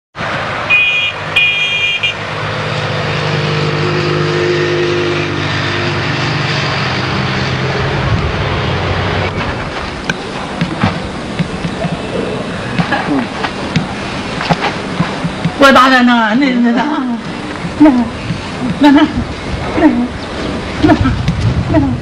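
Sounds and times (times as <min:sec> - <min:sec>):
engine running: 0:00.2 - 0:22.0.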